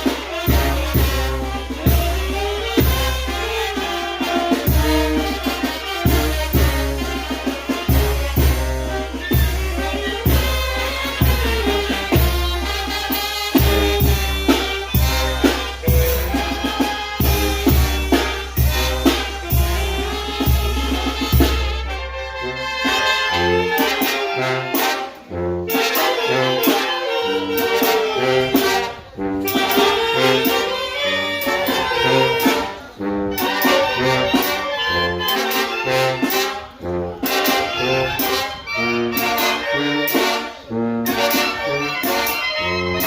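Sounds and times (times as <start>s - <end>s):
brass band playing: 0.0s - 43.0s.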